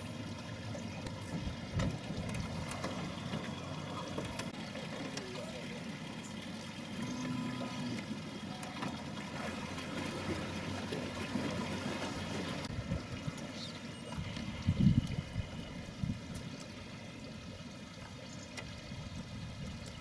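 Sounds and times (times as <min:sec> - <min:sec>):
river water lapping and trickling: 0:00.0 - 0:20.0.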